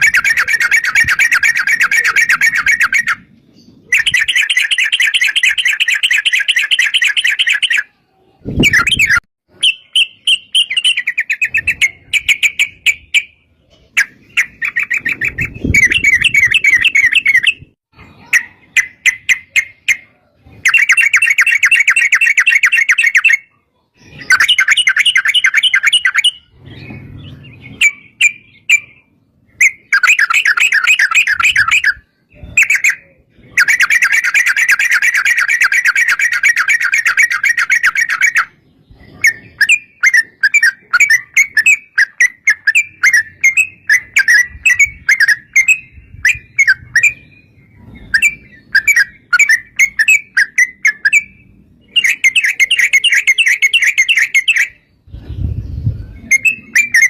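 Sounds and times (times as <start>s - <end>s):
bird singing rattling trills: 0.0s - 57.0s.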